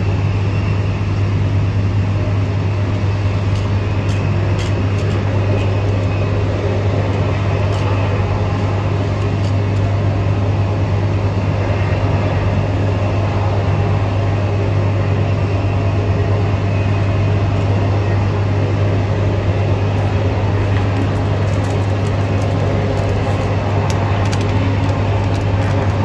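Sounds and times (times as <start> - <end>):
low mechanical hum: 0.0 - 26.0
rush of noise: 0.0 - 26.0.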